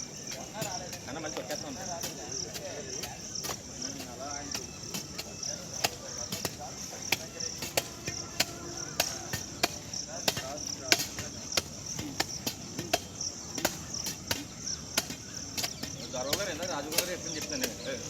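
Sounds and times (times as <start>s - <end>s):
crickets chirping: 0.0s - 18.0s
hand tool striking packed soil: 0.0s - 18.0s.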